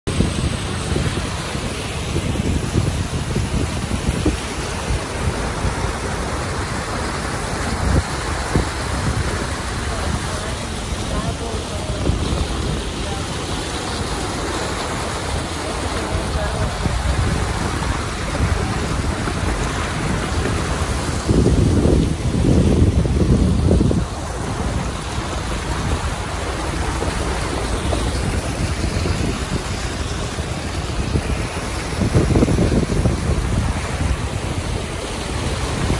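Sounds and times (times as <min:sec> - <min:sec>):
water rushing against car: 0:00.0 - 0:35.9.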